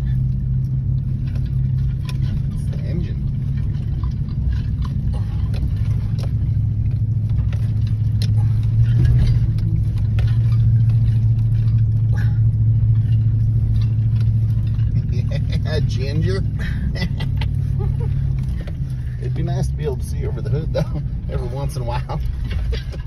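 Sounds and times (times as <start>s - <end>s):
knocks and rattles: 0.0s - 23.0s
truck engine drone: 0.0s - 23.0s.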